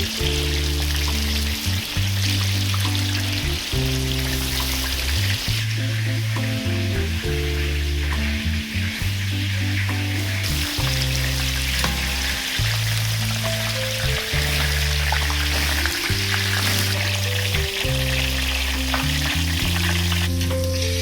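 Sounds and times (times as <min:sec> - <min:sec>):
background music of low notes: 0:00.0 - 0:21.0
food sizzling in hot oil: 0:00.0 - 0:21.0.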